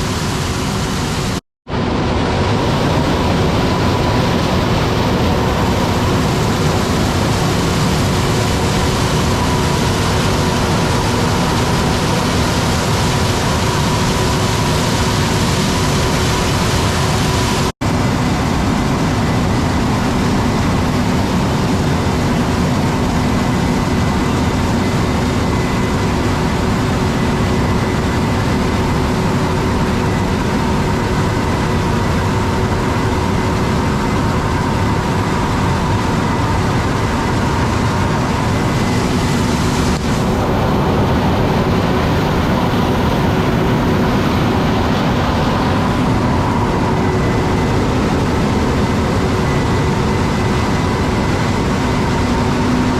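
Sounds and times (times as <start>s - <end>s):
harvest machinery running: 0.0s - 52.9s.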